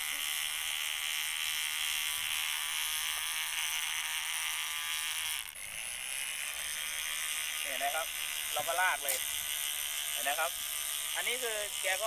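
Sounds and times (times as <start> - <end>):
electric knife buzzing: 0.0 - 12.0.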